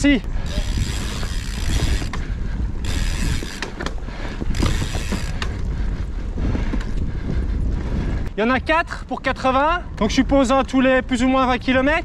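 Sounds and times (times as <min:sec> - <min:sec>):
bike tyres rumbling on dirt: 0:00.3 - 0:12.0.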